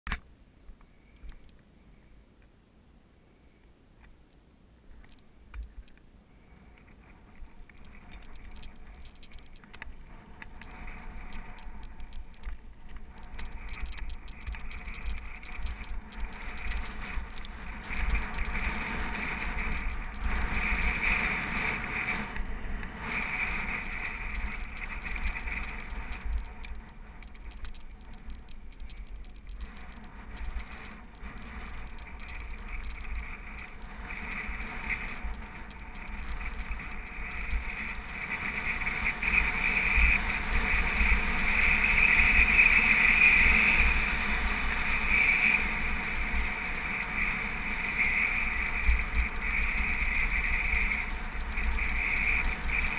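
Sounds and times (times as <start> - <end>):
wind rumble on microphone: 4.9 - 52.9.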